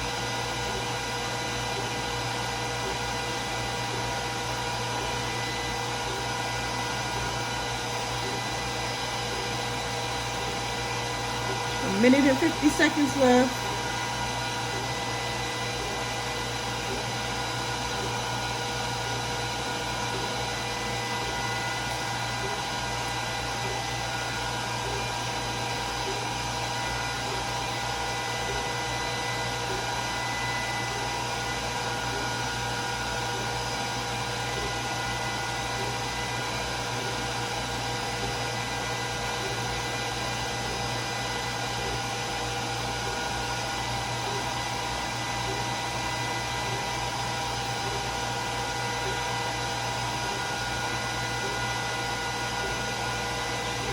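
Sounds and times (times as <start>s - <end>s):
laser cutter fans whirring: 0.0s - 53.9s.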